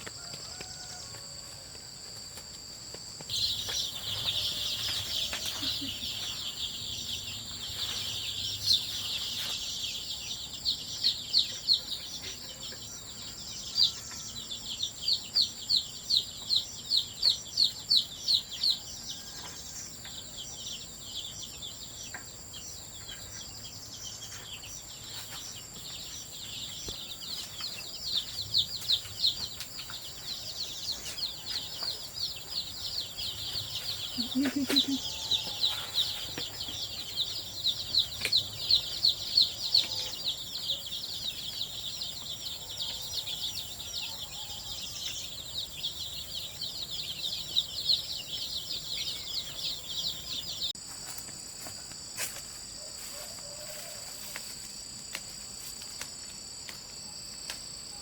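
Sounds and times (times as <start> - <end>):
chicks peeping: 3.2 - 51.2.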